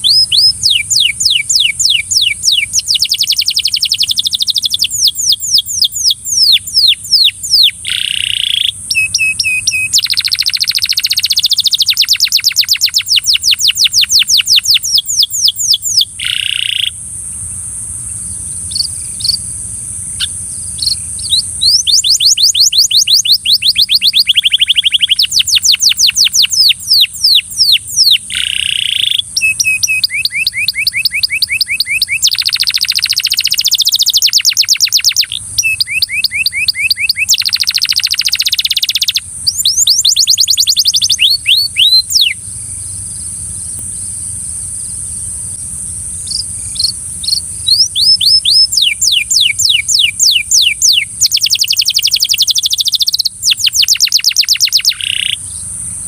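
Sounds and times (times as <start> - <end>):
canary singing trills: 0.0 - 17.0, 18.0 - 44.4, 46.1 - 56.0
steady high hiss: 0.0 - 56.0.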